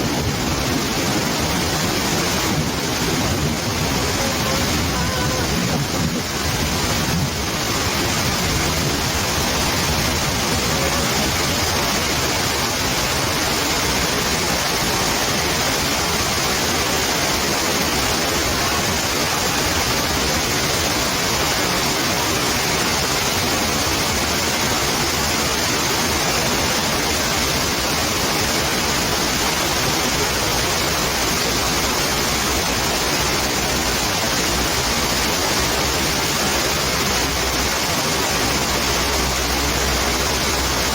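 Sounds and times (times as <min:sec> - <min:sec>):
heavy rain: 0:00.0 - 0:40.9
rainwater rushing over tree trunk: 0:00.0 - 0:40.9.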